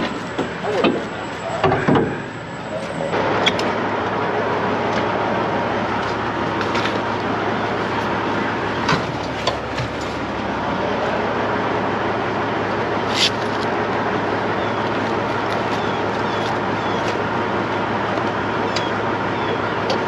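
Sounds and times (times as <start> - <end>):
diesel engines running: 0.0 - 20.0.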